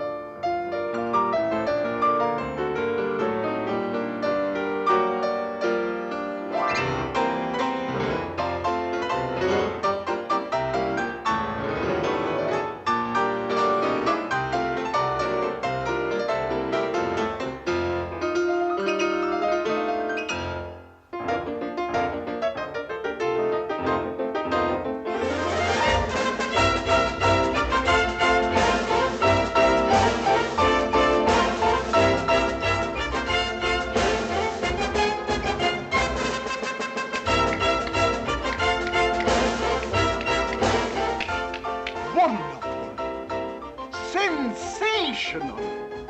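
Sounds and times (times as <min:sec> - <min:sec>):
fast cartoon piano music: 0:00.0 - 0:46.0.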